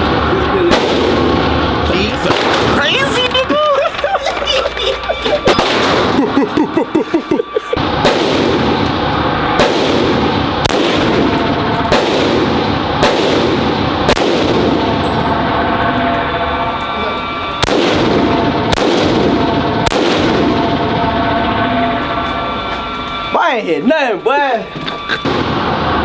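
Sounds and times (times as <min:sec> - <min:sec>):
gunshots echoing: 0:00.0 - 0:23.3, 0:24.4 - 0:26.0.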